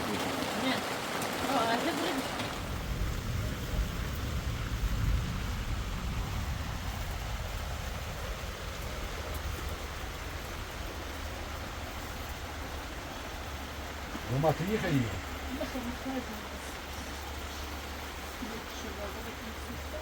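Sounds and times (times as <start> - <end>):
steady rain: 0.0 - 20.0
wind buffeting microphone: 1.6 - 18.4.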